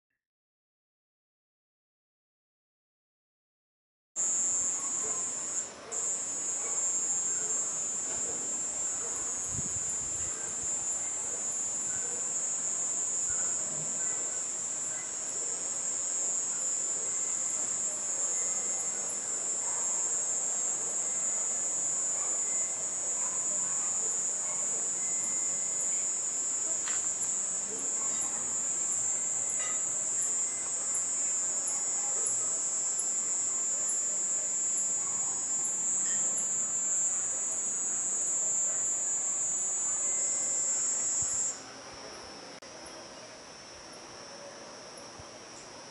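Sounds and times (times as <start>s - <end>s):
cicadas droning: 4.2s - 45.9s.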